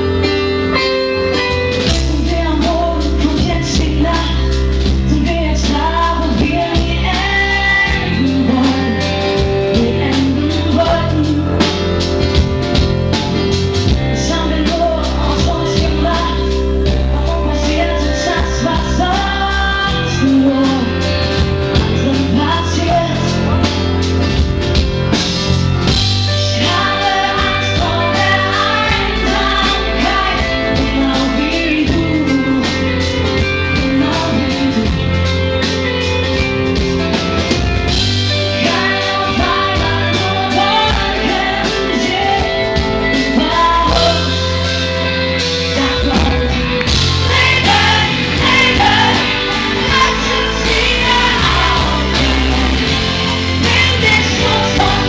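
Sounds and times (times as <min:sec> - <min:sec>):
person singing lead vocals: 0:00.0 - 0:12.5, 0:13.3 - 0:24.4, 0:25.8 - 0:36.4, 0:37.9 - 0:55.0
live pop-rock band: 0:00.0 - 0:55.0.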